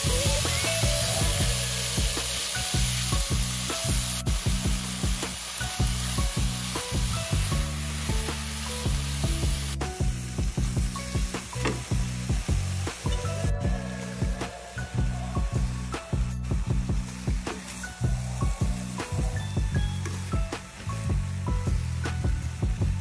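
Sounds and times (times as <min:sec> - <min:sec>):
background music: 0:00.0 - 0:23.0
food sizzling in a wok: 0:00.0 - 0:23.0.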